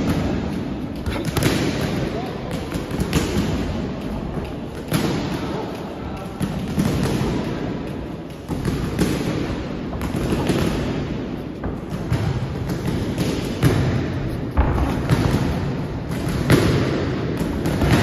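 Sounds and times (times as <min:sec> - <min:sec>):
steady hall din: 0:00.0 - 0:18.0.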